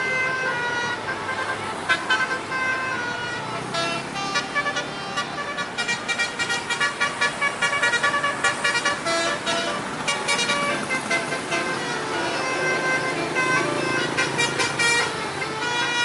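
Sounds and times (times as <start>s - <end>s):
musical bus horn tooting: 0.0s - 16.0s.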